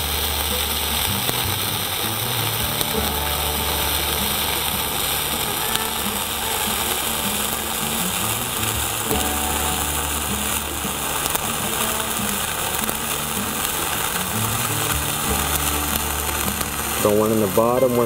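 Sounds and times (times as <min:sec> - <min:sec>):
low hum: 0:00.0 - 0:17.5
welding arc crackling: 0:00.0 - 0:18.0.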